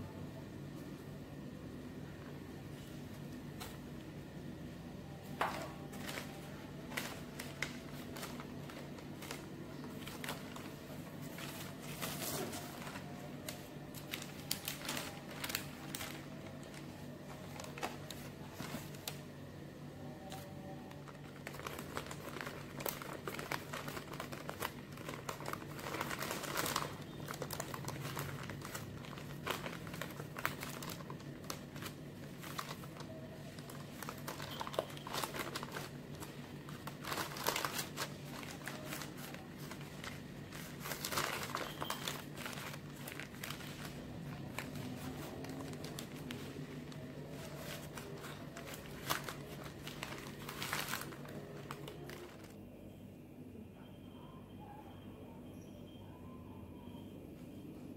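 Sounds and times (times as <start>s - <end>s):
baking paper rustling: 5.2s - 19.5s, 20.2s - 52.6s.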